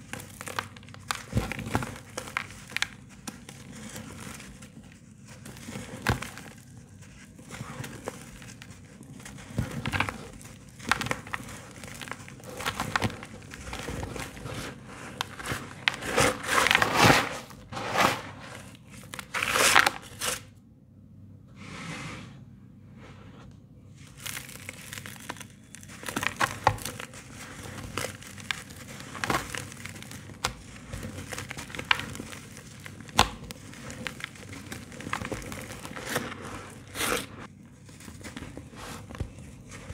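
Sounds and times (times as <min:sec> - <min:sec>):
crumbling cement chunks crunching: 0:00.0 - 0:20.1, 0:24.0 - 0:39.9.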